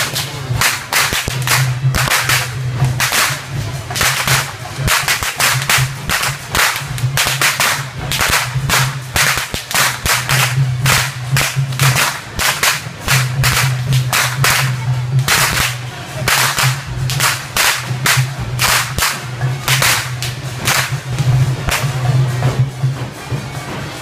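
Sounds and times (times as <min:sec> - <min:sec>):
whips cracking: 0:00.0 - 0:21.0.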